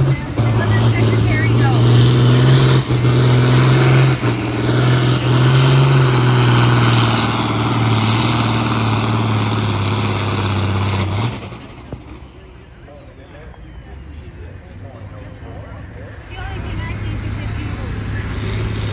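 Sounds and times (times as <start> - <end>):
pulling tractor engine revving: 0.0 - 18.9.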